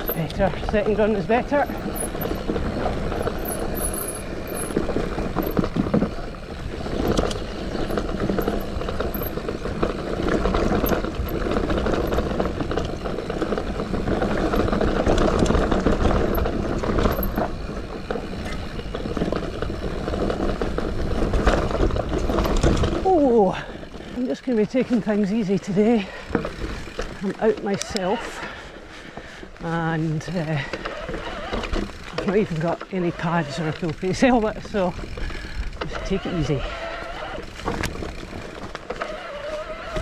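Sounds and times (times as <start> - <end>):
bike frame and chain rattling: 0.0 - 40.0
bike tyres on dirt: 0.0 - 40.0.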